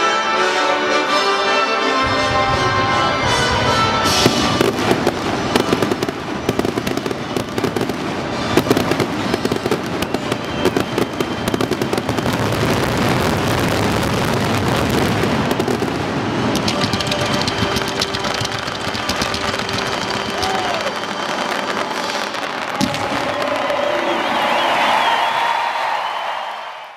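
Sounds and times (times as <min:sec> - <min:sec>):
fireworks bursting and crackling: 0:02.2 - 0:25.2.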